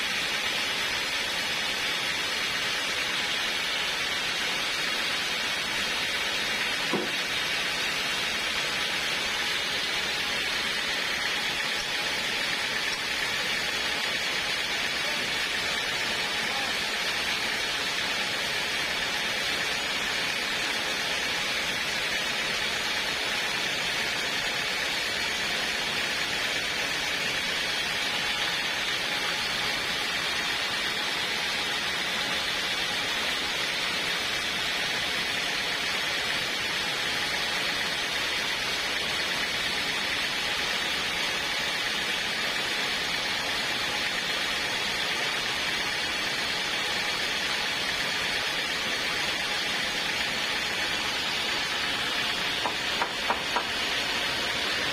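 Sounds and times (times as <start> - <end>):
sawmill running: 0.0 - 54.9.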